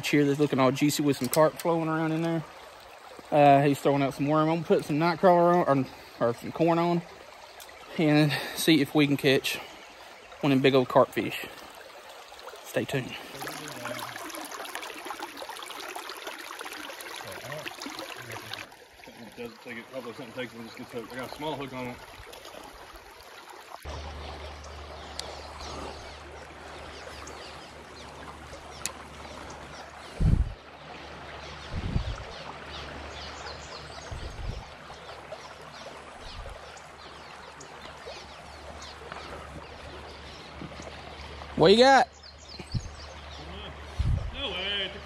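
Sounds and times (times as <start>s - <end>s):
creek water flowing: 0.0s - 45.0s.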